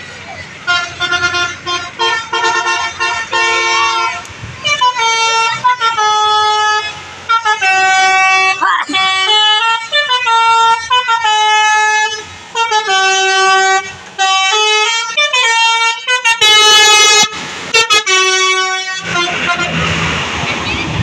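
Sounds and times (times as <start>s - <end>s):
multi-tone air horn melody: 0.7s - 20.0s.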